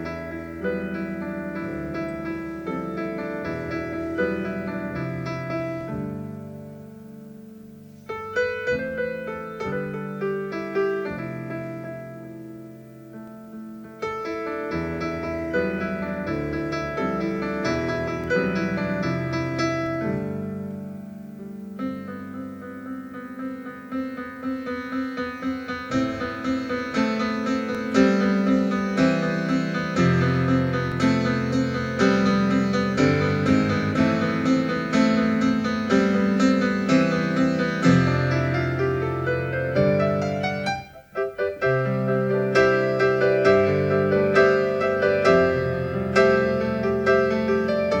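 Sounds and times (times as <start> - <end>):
slow tender solo piano: 0.0 - 48.0.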